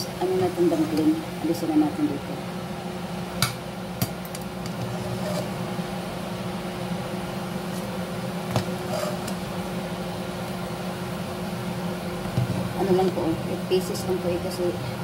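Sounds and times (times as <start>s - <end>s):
low appliance hum: 0.0s - 15.0s
water boiling in pot: 0.0s - 15.0s.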